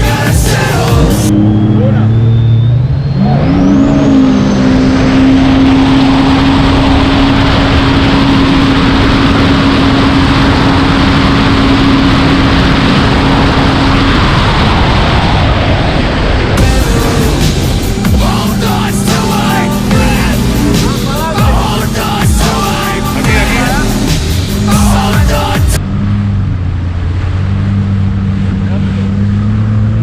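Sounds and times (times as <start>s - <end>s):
loud rushing noise: 0.0s - 28.8s
jet ski engine at high revs: 0.0s - 30.0s.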